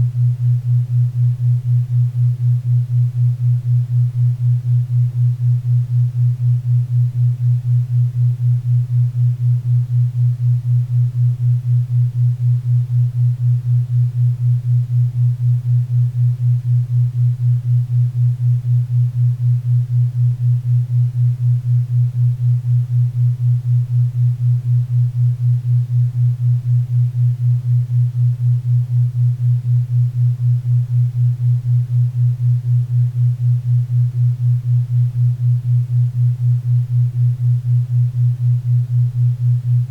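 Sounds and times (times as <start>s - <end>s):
low pulsing hum: 0.0s - 39.9s.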